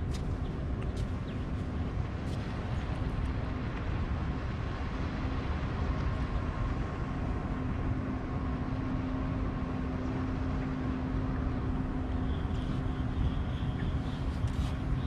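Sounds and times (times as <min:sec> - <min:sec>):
faint steady hum: 0:00.0 - 0:15.0
wind rumbling on microphone: 0:00.0 - 0:15.0.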